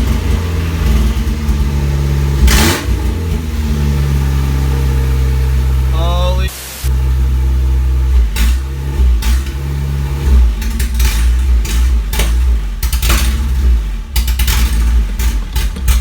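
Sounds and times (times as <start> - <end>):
engine running loud and uneven: 0.0 - 16.0.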